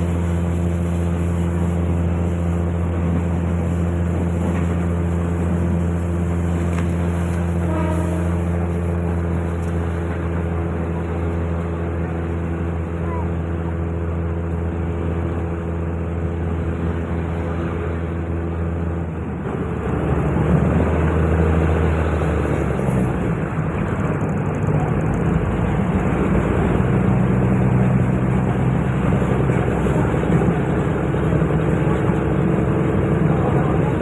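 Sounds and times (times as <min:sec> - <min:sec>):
diesel railcar engine running: 0:00.0 - 0:34.0.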